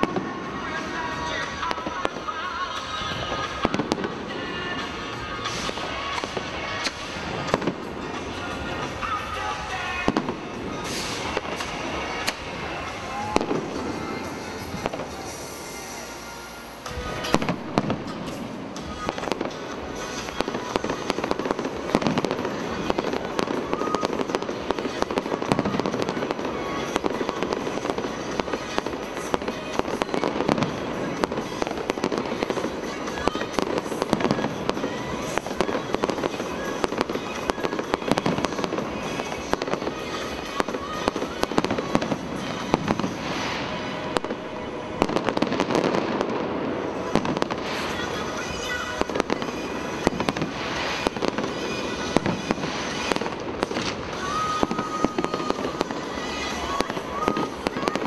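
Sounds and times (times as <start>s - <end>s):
fireworks bangs and crackling: 0.0s - 58.0s
music playing: 0.0s - 58.0s.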